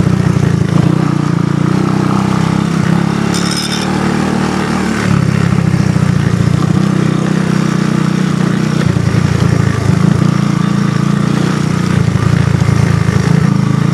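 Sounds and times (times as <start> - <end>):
atv engine running: 0.0 - 13.9.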